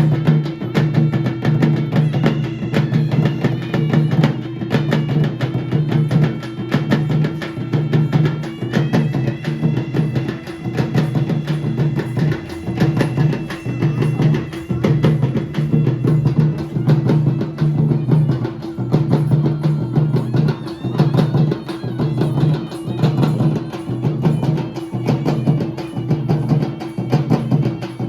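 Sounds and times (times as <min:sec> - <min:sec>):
high wavering melody: 0:00.0 - 0:28.0
rapid drumbeats: 0:00.0 - 0:28.0.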